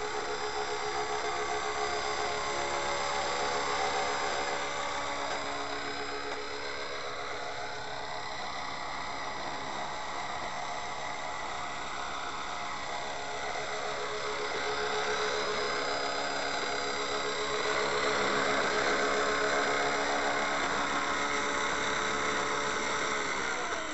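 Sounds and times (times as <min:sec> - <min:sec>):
model helicopter rotors whining: 0:00.0 - 0:23.9.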